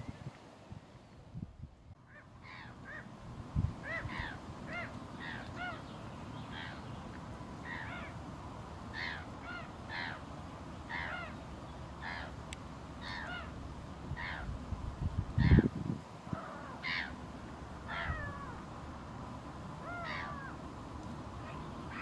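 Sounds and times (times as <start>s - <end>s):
gulls calling: 2.0s - 3.2s, 3.8s - 14.7s, 15.3s - 22.0s.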